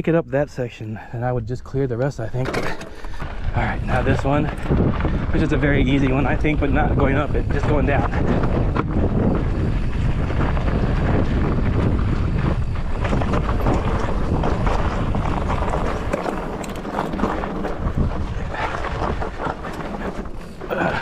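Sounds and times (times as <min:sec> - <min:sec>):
wind rushing over microphone: 0:01.6 - 0:21.0
bike rattling over rocks: 0:02.3 - 0:21.0.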